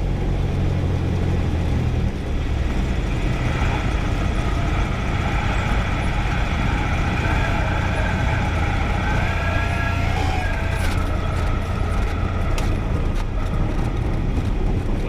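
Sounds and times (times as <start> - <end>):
light aircraft piston engine: 0.0 - 15.0
high whine: 1.3 - 15.0.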